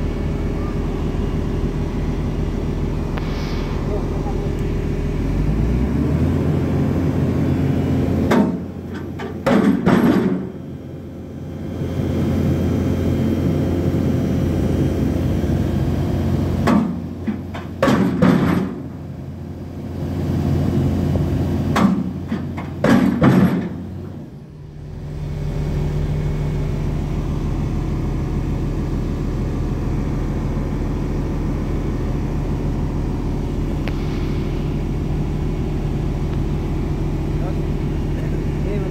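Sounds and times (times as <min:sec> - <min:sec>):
heavy machinery engine hum: 0:00.0 - 0:38.9.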